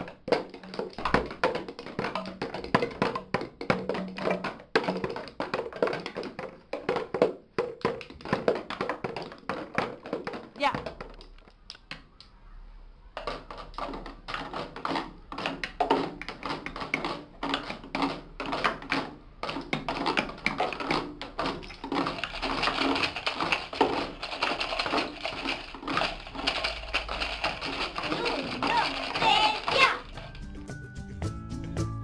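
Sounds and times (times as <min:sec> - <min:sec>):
hand tapping on plastic bottles: 0:00.0 - 0:12.3, 0:13.2 - 0:30.3.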